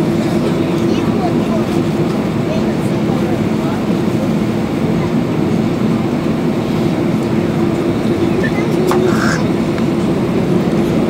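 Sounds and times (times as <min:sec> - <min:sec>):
airplane cabin rumble: 0:00.1 - 0:11.0.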